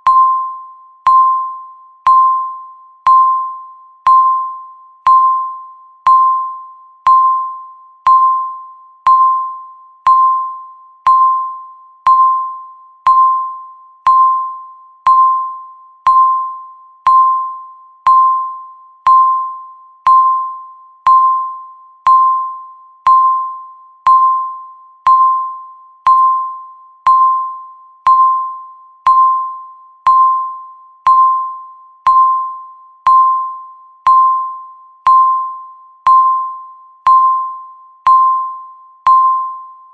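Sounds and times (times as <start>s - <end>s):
short high timer beeps: 0.0s - 39.9s.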